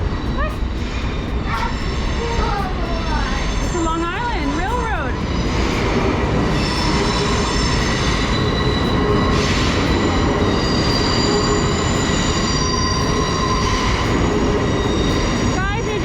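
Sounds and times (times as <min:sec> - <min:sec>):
high squealing tones: 0:00.0 - 0:16.0
train wheels rumbling on rails: 0:00.0 - 0:16.0.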